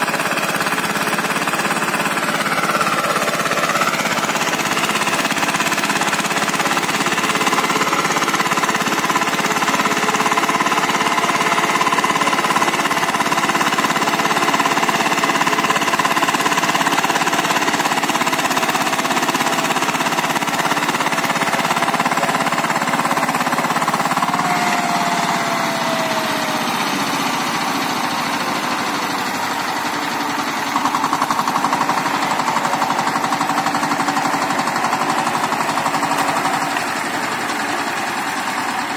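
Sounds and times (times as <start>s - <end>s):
power tiller diesel engine running: 0.0s - 38.9s.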